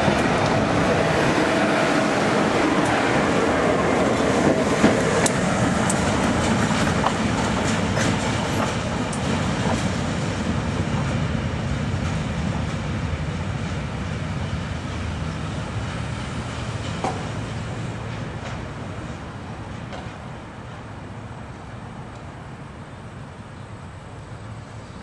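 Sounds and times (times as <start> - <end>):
train wheel and engine rumble: 0.0 - 25.0.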